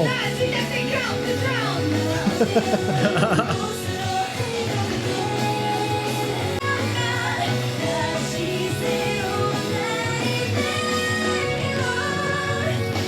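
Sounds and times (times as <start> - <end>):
rock backing with guitar: 0.0 - 13.0
woman singing with vibrato: 0.0 - 13.0.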